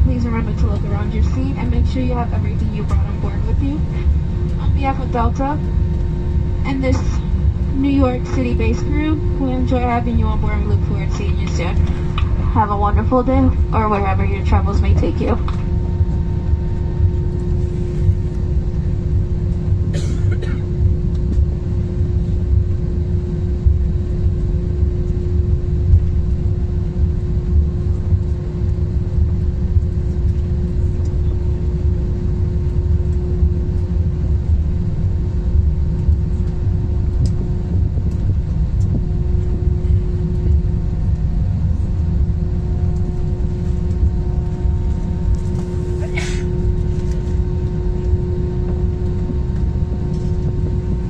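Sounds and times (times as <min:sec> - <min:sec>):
airliner cabin rumble: 0:00.0 - 0:51.0.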